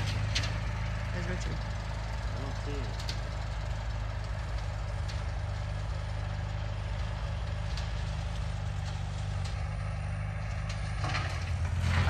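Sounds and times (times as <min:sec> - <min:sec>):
machine engine humming: 0:00.0 - 0:12.0.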